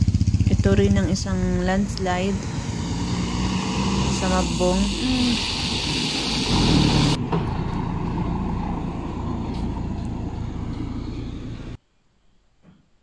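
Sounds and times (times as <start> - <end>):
vehicle engine passing close: 0.0 - 11.8
low vehicle and road noise: 0.0 - 11.9.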